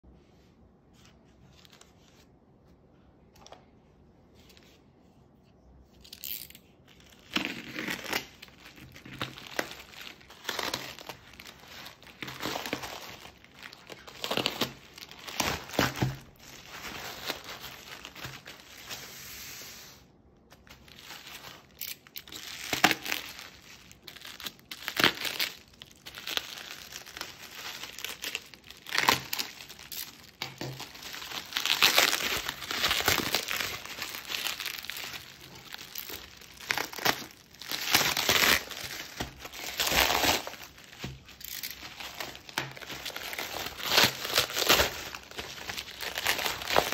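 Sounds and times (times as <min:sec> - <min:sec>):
bubble wrap crinkling: 0:05.9 - 0:46.9
plastic bag ripping: 0:06.9 - 0:18.9, 0:20.6 - 0:46.9.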